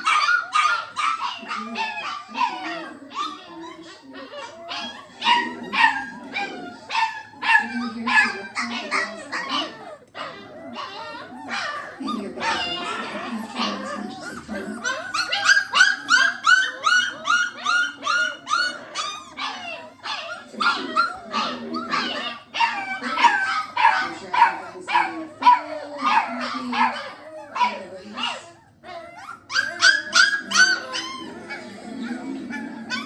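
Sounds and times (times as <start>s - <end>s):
puppies yelping and whining: 0.0s - 33.0s.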